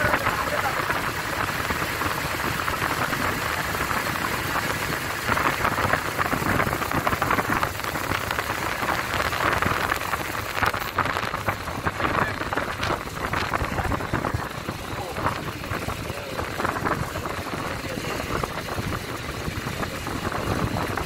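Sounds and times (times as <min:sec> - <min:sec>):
vehicle driving at speed: 0:00.0 - 0:21.0
wind buffeting microphone: 0:00.0 - 0:21.0.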